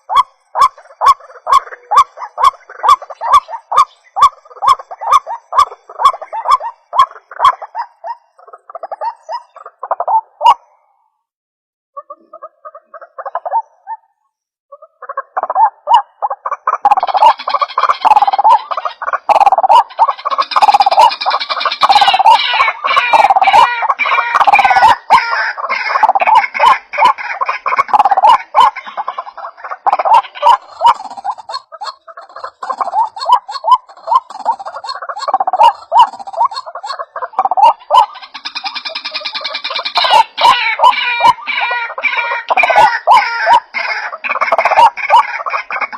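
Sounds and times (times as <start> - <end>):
waterhen calling: 0.0 - 10.8, 14.7 - 45.9.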